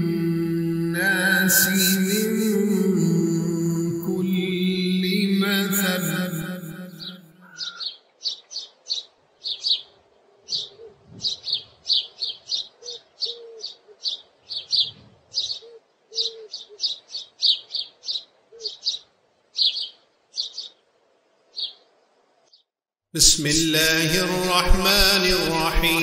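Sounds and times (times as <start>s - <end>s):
birds chirping: 4.0s - 26.0s.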